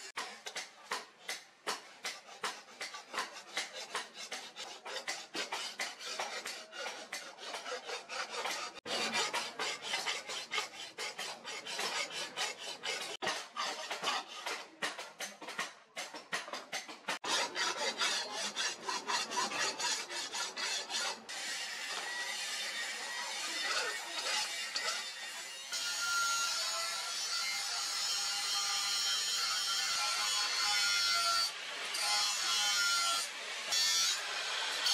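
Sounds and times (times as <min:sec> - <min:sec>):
file rasping on steel blade: 0:00.0 - 0:34.9.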